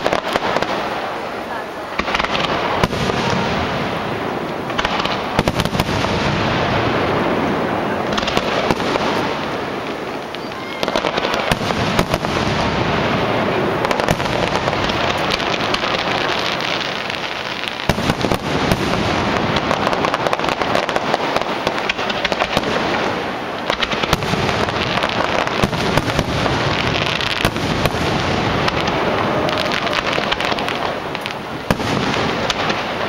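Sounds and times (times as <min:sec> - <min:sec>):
firework crackle: 0:00.0 - 0:33.0
firework shells bursting: 0:00.0 - 0:33.0.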